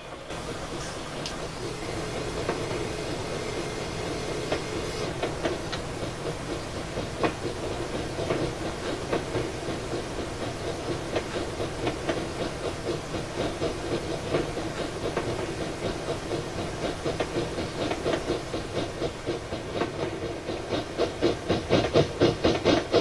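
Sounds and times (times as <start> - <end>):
model locomotive running rumble: 0.0 - 23.0
wheels clicking on rails: 0.0 - 23.0.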